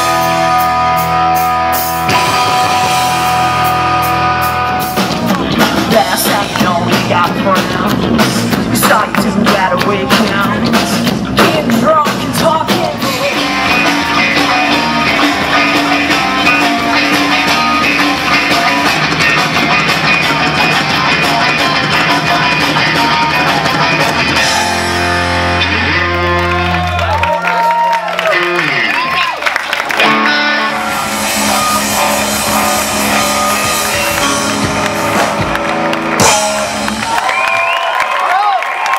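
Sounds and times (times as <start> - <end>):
rock band playing loud: 0.0 - 38.9.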